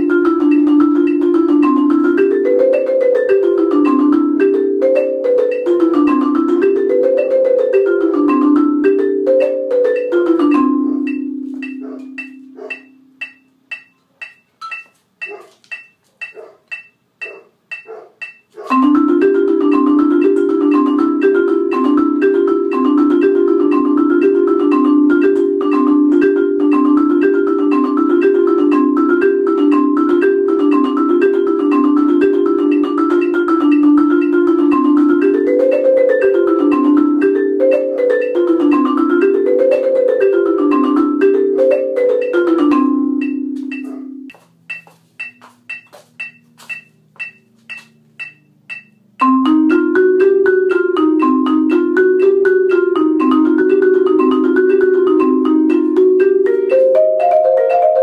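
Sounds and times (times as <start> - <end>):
marimba arpeggios: 0.0 - 58.0.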